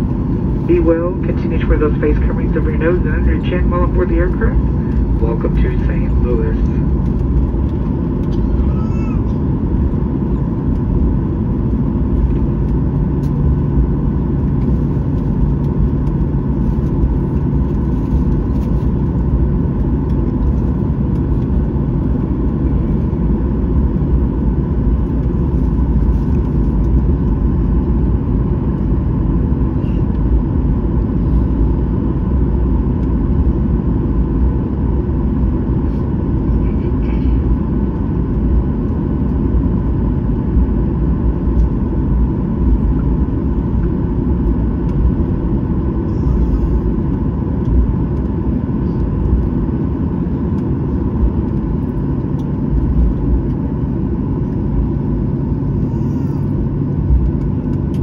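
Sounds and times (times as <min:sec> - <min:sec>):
aircraft cabin rumble: 0:00.0 - 0:58.0
low hum: 0:00.0 - 0:58.0.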